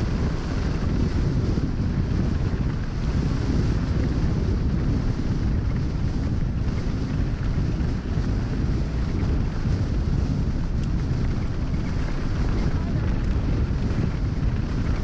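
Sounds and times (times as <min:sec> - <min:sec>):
bike tyres rumbling on gravel: 0:00.0 - 0:15.0
wind buffeting microphone: 0:00.0 - 0:15.0.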